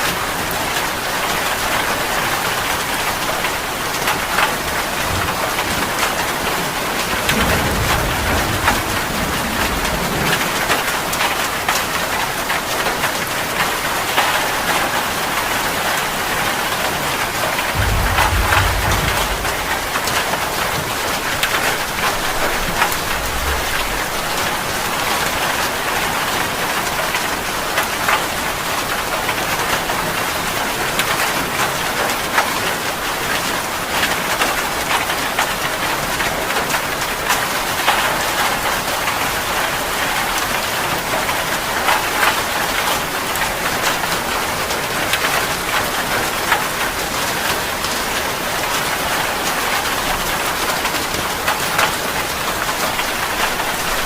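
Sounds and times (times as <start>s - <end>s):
heavy rain on a surface: 0.0s - 54.0s.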